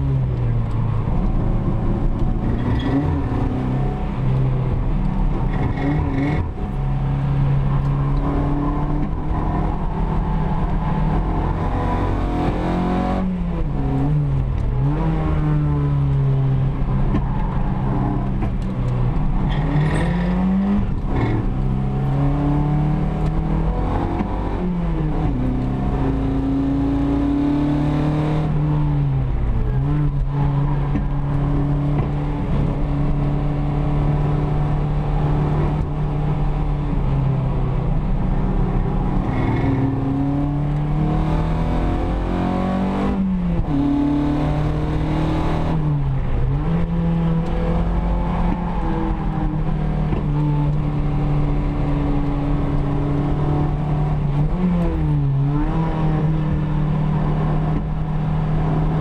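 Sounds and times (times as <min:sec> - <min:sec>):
car engine accelerating from cabin: 0:00.0 - 0:59.0.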